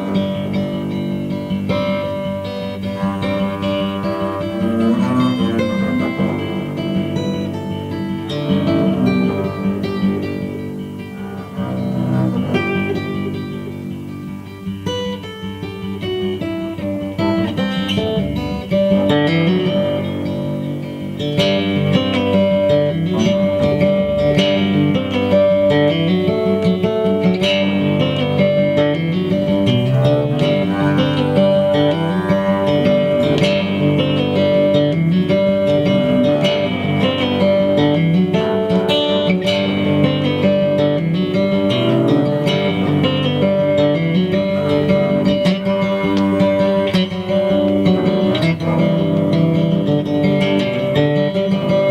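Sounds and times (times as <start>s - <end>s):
live guitar band music: 0.0s - 51.9s.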